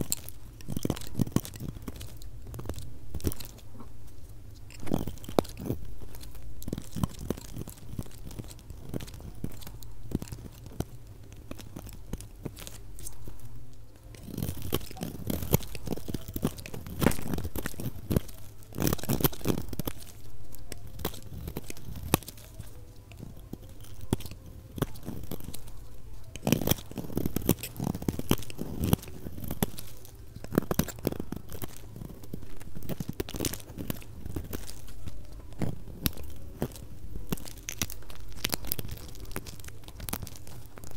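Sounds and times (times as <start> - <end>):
light scraping: 0.0 - 40.9.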